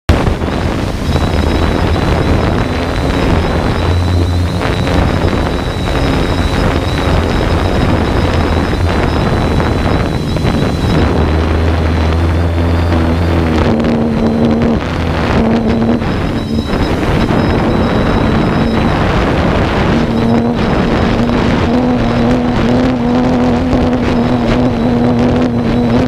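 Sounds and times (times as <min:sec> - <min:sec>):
drone motors and propellers humming: 0:00.1 - 0:26.0
thin high whine: 0:00.1 - 0:26.0
wind buffeting microphone: 0:00.1 - 0:26.0.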